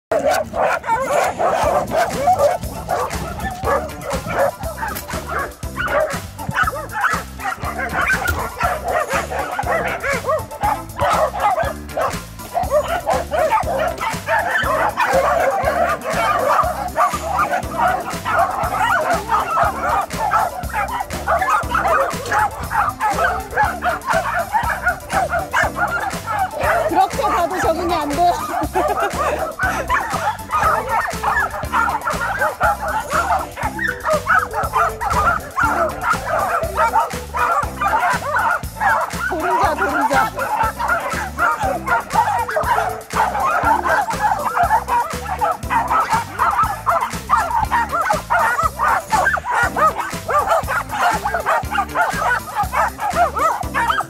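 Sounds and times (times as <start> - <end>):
background music with steady beat: 0.1 - 54.0
dogs barking together: 0.1 - 54.0.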